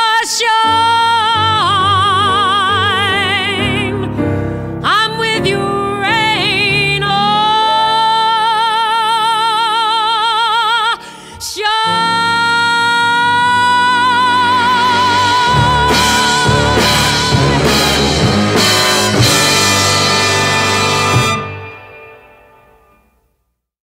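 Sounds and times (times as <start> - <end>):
woman singing jazz: 0.0 - 19.4.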